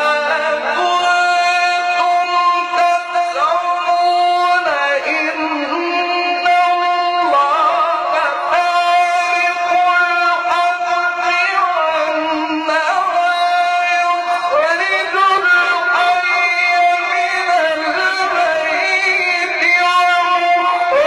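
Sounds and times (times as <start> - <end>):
man chanting recitation: 0.0 - 21.0.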